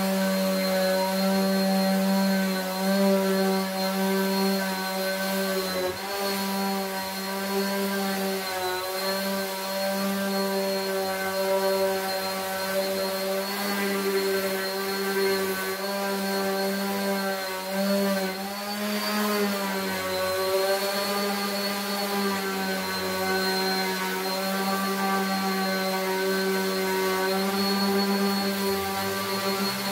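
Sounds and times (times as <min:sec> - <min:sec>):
orbital sander motor whine: 0:00.0 - 0:29.9.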